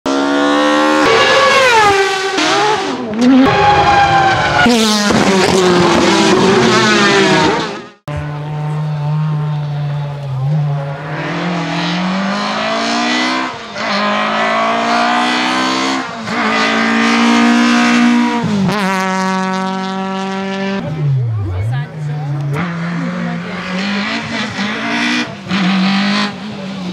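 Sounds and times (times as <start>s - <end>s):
rally car engine revving: 0.1s - 26.9s.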